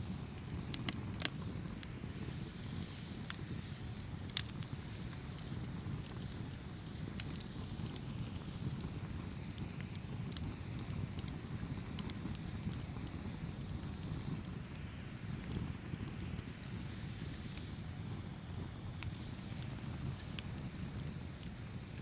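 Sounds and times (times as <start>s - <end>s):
fire crackling and popping: 0.0s - 22.0s
low rumble of flame: 0.0s - 22.0s.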